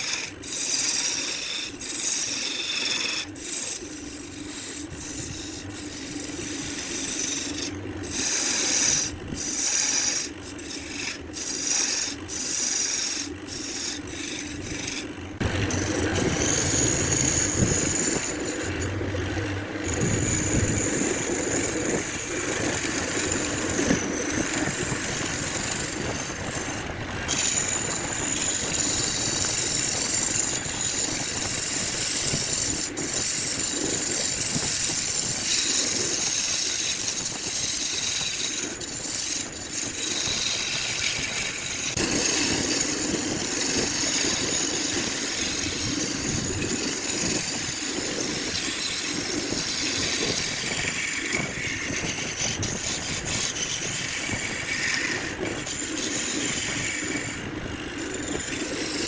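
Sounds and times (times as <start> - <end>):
woodworking machine whining: 0.0 - 59.0.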